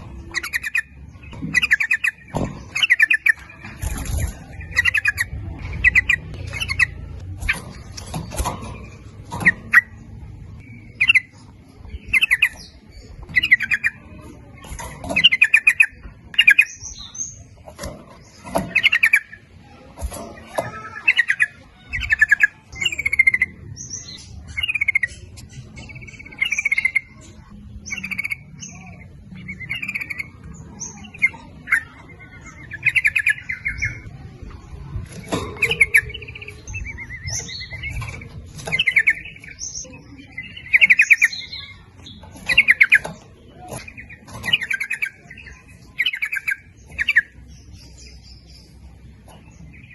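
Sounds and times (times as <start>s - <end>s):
bird chattering calls: 0.0s - 49.9s.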